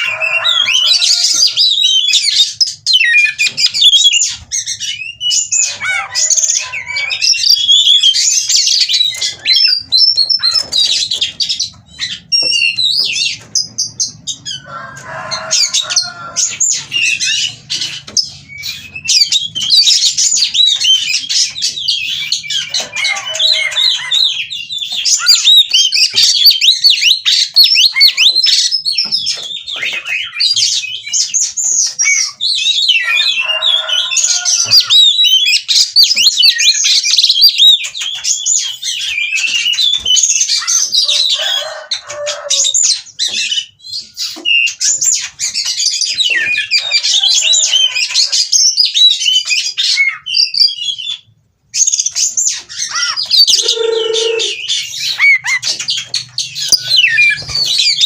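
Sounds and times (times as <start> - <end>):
bird harsh rasping calls: 0.0 - 51.2, 52.3 - 58.0.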